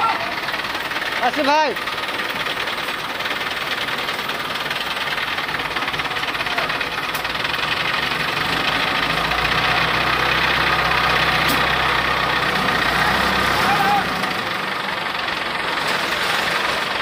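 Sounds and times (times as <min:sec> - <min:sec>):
large vehicle engine running: 0:00.0 - 0:17.0.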